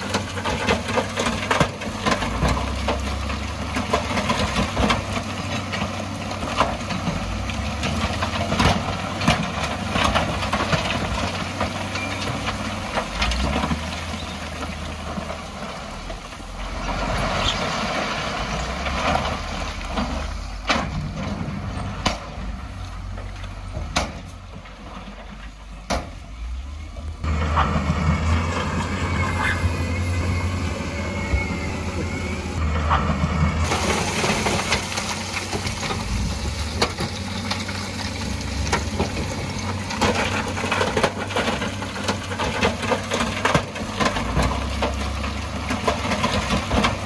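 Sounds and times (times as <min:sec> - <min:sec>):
diesel machinery running: 0:00.0 - 0:47.0.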